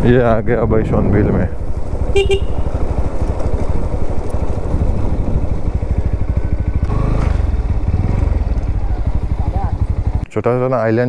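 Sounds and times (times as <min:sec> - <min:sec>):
motorcycle engine running: 0:00.8 - 0:10.3.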